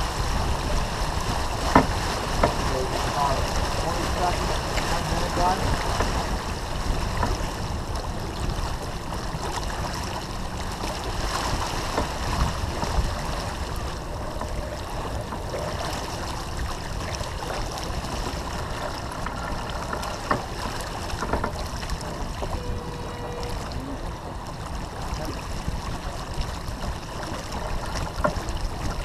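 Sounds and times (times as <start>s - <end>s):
water rushing along hull: 0.0s - 29.0s
wind rumble on microphone: 0.0s - 29.0s.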